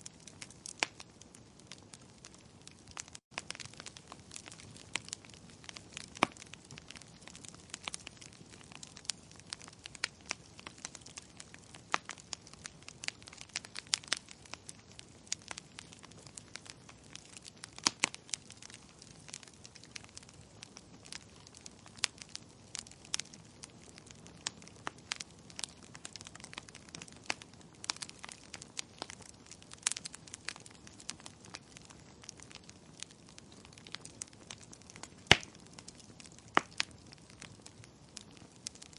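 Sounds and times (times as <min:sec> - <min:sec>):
faint hiss of fire: 0:00.0 - 0:38.9
firewood crackling and popping: 0:00.0 - 0:38.9.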